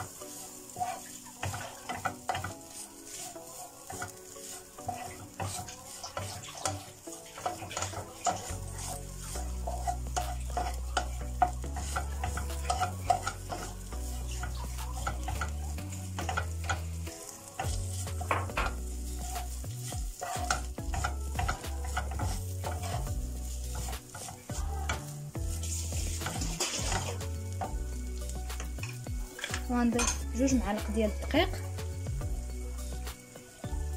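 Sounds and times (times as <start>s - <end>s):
spatula scraping pan: 0.0s - 31.0s
chicken sizzling in frying pan: 0.0s - 33.9s.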